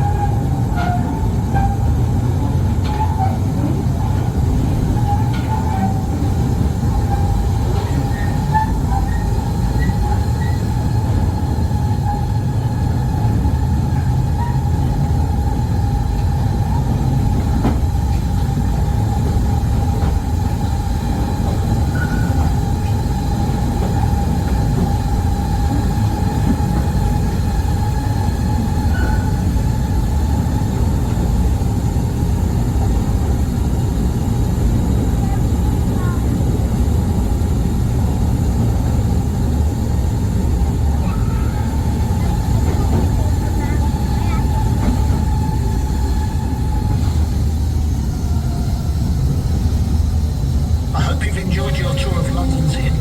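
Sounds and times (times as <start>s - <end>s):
train rumbling in tunnel: 0.0s - 53.0s.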